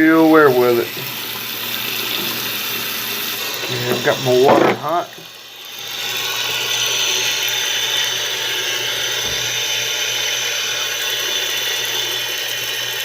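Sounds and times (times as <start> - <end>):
water running from tap: 0.0 - 13.0.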